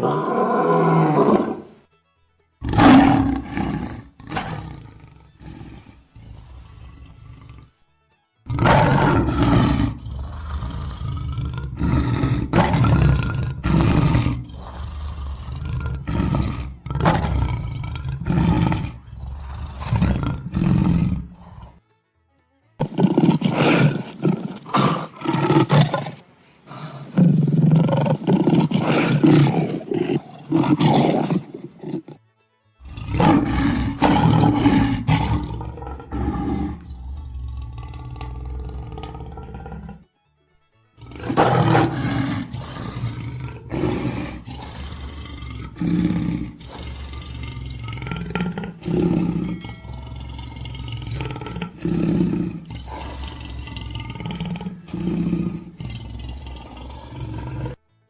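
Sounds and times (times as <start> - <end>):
lions roaring and grunting: 0.0 - 1.8, 2.6 - 7.7, 8.5 - 21.8, 22.8 - 32.2, 32.8 - 40.0, 41.0 - 57.8.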